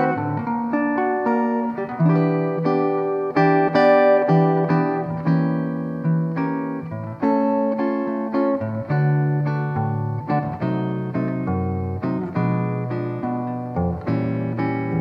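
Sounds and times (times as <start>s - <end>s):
finger-style jazz guitar chords: 0.0s - 15.0s.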